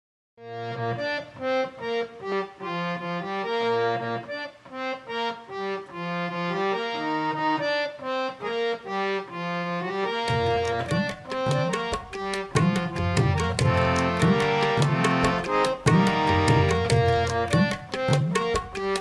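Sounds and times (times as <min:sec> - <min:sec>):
harmonium melody: 0:00.4 - 0:19.0.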